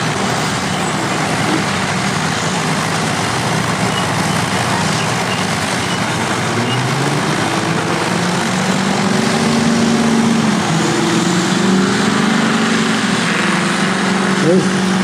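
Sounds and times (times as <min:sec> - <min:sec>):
heavy diesel engine clattering: 0:00.0 - 0:15.0.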